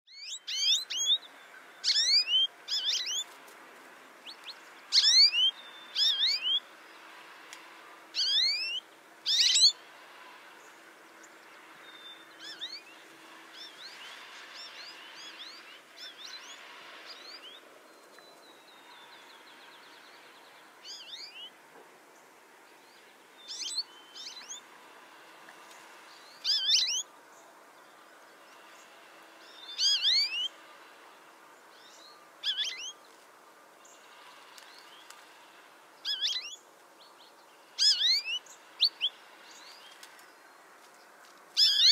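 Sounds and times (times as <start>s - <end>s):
songbirds calling and singing: 0.1s - 41.9s.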